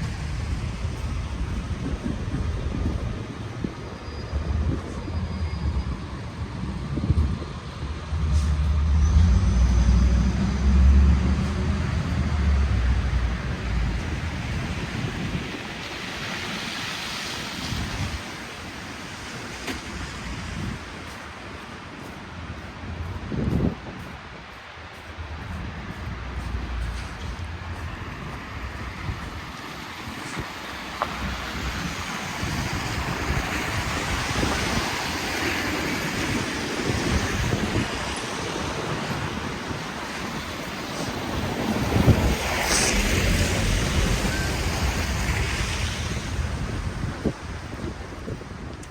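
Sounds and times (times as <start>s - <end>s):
vehicle low rumble: 0.0s - 16.1s, 19.1s - 48.9s
steady outdoor rush: 0.0s - 48.9s
traffic on slushy streets: 0.0s - 48.9s
wind gusting against microphone: 0.0s - 48.9s.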